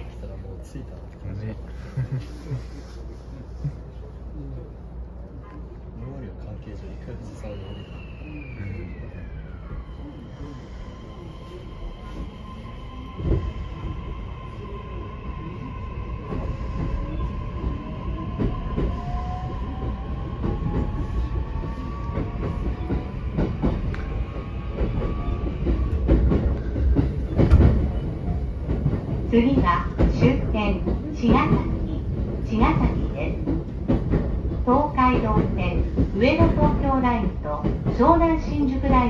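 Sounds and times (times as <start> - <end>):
deep train rumble: 0.0 - 39.0.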